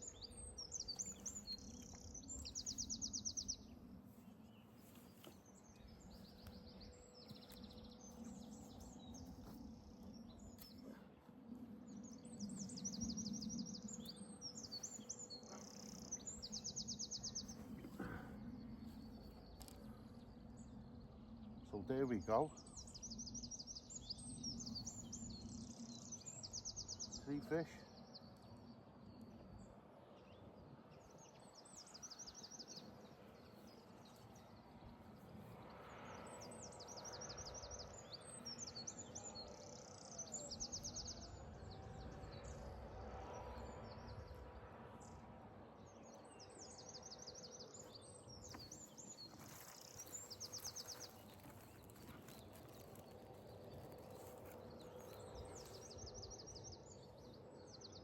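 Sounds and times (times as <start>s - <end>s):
small birds trilling: 0.0s - 42.8s, 45.9s - 58.0s.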